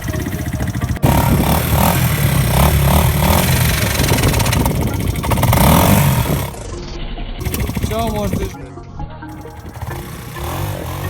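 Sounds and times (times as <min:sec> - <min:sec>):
off-road vehicle engine revving: 0:00.0 - 0:06.8, 0:07.4 - 0:08.7, 0:09.3 - 0:11.0.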